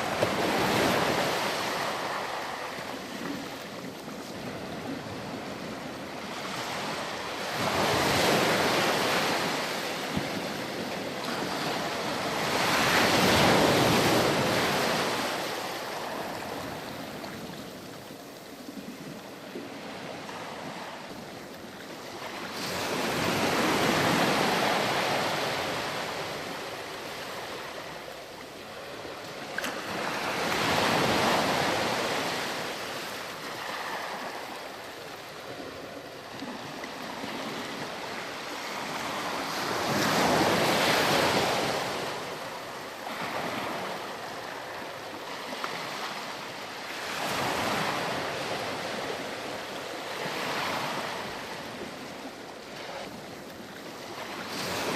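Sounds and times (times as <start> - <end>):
ocean waves breaking: 0.0 - 54.9
steady surf wash: 0.0 - 54.9.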